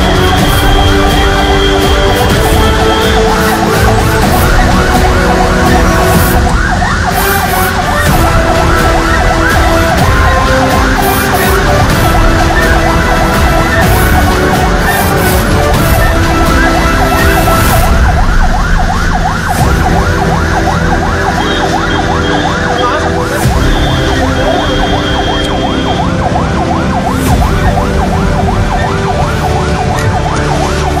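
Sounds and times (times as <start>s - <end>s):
ambulance siren yelping: 0.0s - 31.0s
road rumble: 0.0s - 31.0s.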